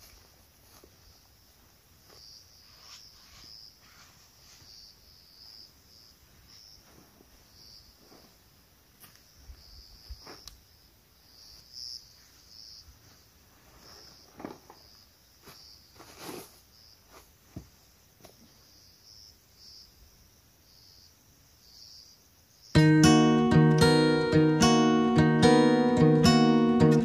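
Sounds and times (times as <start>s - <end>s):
insects chirping: 0.0s - 26.9s.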